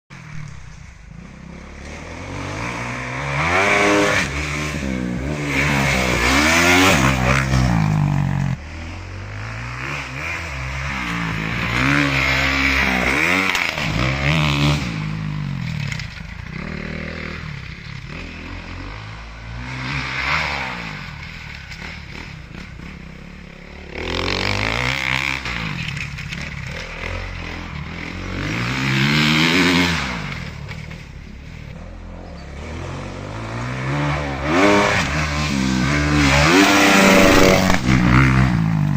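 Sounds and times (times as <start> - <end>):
motocross bike engine revving: 0.2 - 38.9.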